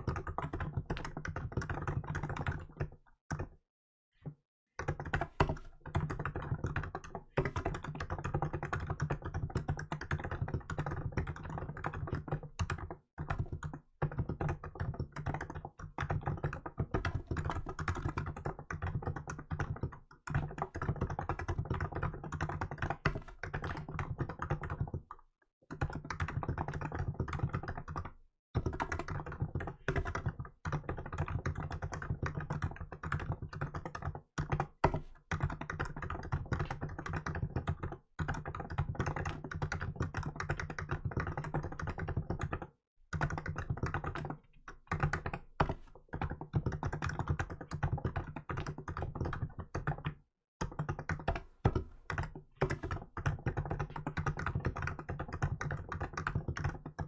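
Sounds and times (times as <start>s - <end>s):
keyboard typing: 0.0s - 3.6s, 4.8s - 25.1s, 25.7s - 57.0s.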